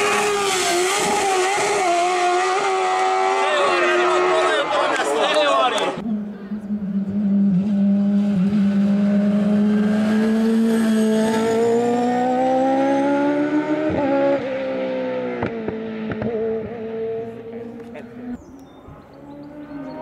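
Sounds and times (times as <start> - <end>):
racing car engine accelerating: 0.0 - 20.0.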